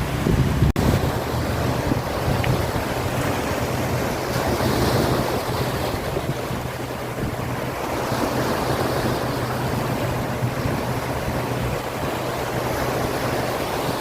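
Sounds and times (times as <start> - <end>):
sea waves: 0.0 - 14.0
wind buffeting microphone: 0.0 - 14.0.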